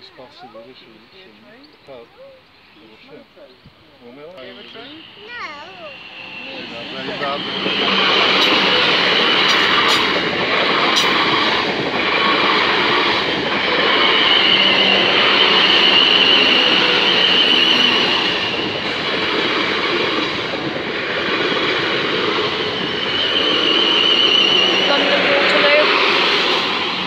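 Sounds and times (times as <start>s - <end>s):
train passing at speed: 0.0s - 27.0s.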